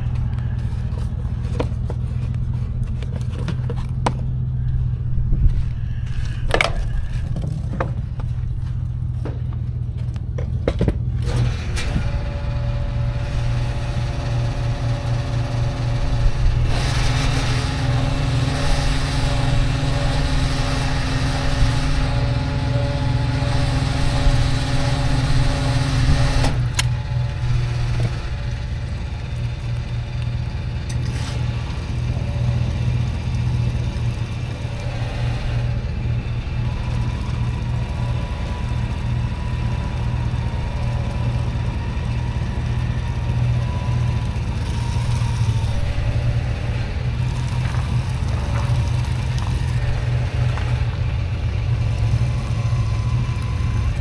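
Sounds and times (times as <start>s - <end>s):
atv engine idling: 0.0s - 54.0s.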